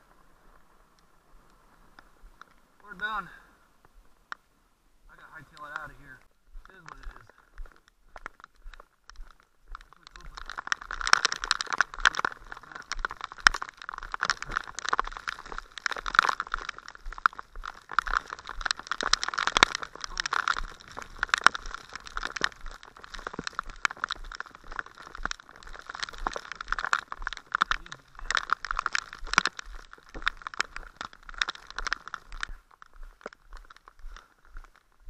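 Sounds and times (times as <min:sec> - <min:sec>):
footsteps on wet gravel: 0:05.0 - 0:35.0
heavy rain on camera case: 0:05.3 - 0:35.0.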